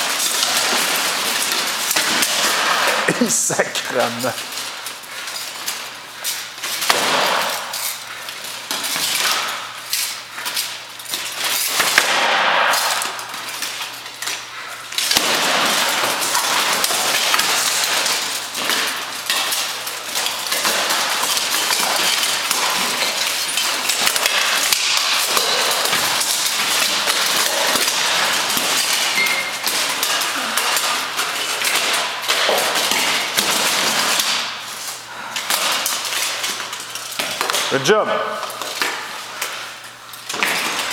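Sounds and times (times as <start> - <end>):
steel armour and weapons clashing: 0.0 - 40.9.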